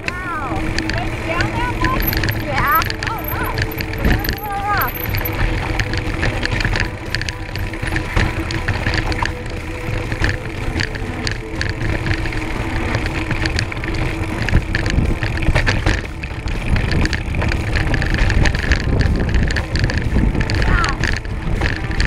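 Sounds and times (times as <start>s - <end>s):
bike rattles and knocks: 0.0s - 22.0s
tyre crunching over rock and gravel: 0.0s - 22.0s
wind rumble on microphone: 0.0s - 22.0s.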